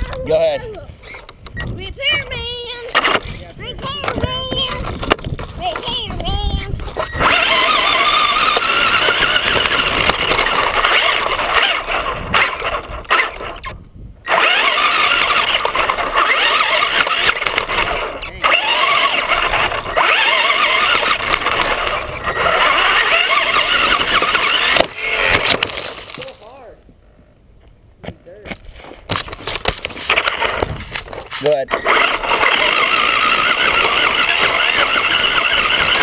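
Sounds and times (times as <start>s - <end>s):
rc car motor whining: 0.0s - 26.1s, 30.0s - 36.0s
tyres on rough ground: 0.0s - 36.0s.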